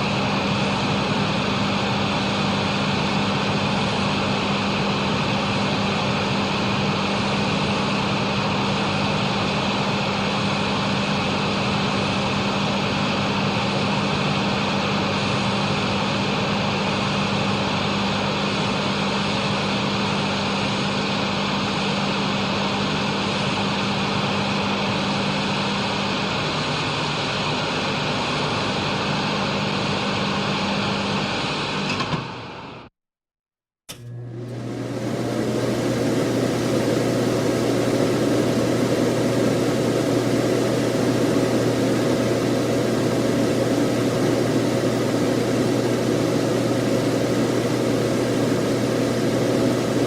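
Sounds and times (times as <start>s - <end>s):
exhaust fan running: 0.0s - 32.3s, 33.9s - 50.0s.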